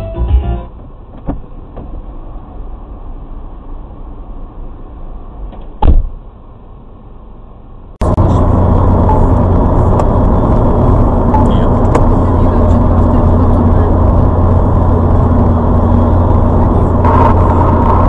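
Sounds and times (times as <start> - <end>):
car road noise inside cabin: 0.7 - 18.0
road and wind noise at speed: 0.7 - 18.0.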